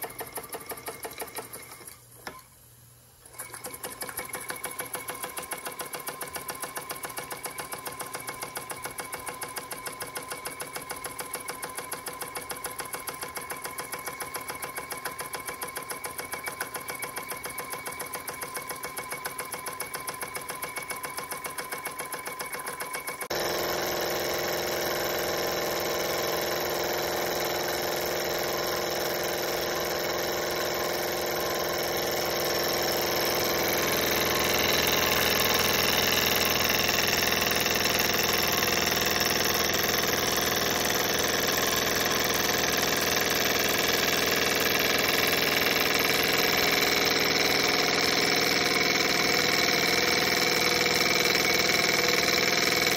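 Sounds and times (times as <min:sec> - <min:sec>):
toy steam engine chuffing: 0:03.2 - 0:52.9.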